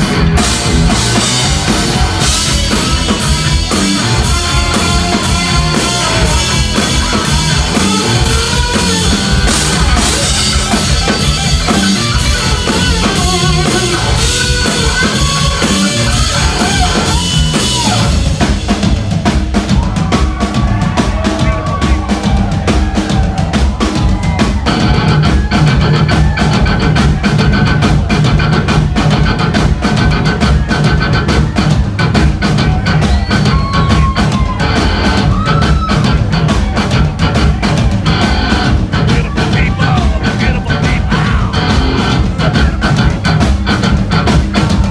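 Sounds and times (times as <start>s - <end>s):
fast dense drum hits: 0.0s - 44.9s
rock band playing: 0.0s - 44.9s.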